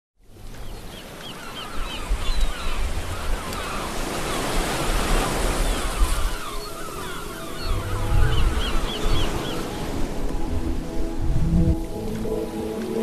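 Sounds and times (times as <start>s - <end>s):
birds chirping: 0.3s - 13.0s
ocean surf washing: 0.3s - 13.0s.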